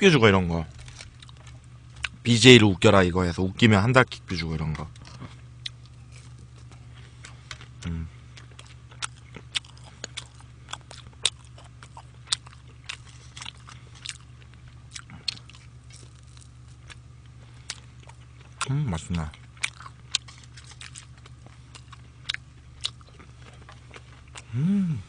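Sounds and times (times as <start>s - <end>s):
low hum: 0.0s - 25.0s
crisp chewing crunches: 0.7s - 2.2s, 4.1s - 24.5s.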